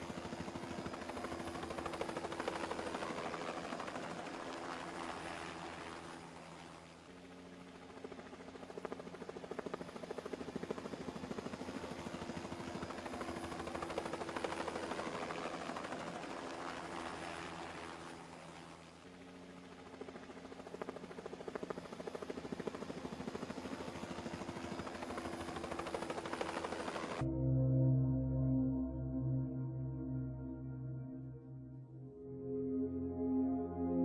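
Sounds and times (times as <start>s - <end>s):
helicopter rotor beating: 0.0s - 27.2s.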